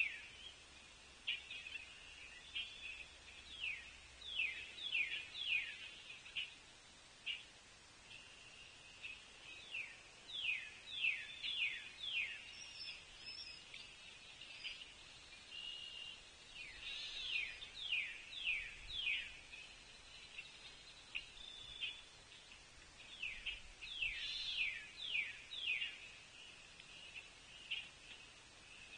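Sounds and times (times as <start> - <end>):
faint bird chirps: 0.0 - 6.6, 7.2 - 28.9.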